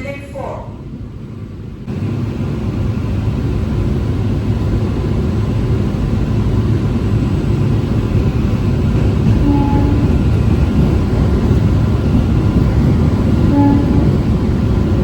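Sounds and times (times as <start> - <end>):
train wheels rumbling inside coach: 0.0 - 15.0.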